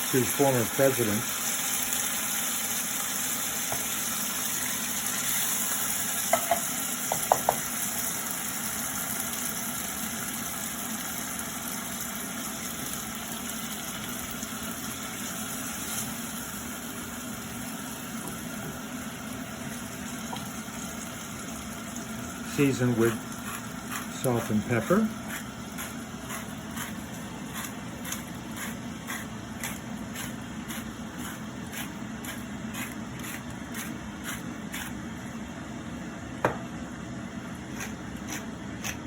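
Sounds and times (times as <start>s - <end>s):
food sizzling in a skillet: 0.0s - 32.4s.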